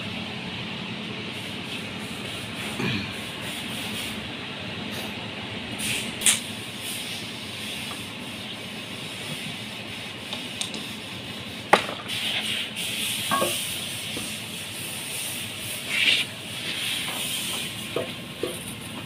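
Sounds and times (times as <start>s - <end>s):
workshop background hiss: 0.0s - 19.0s.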